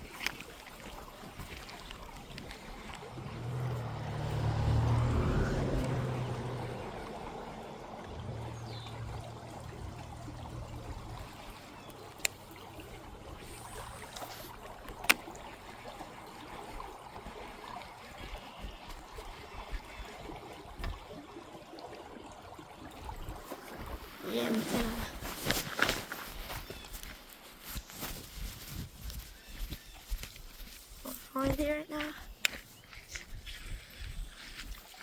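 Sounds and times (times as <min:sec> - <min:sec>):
flowing creek water: 0:00.0 - 0:35.0.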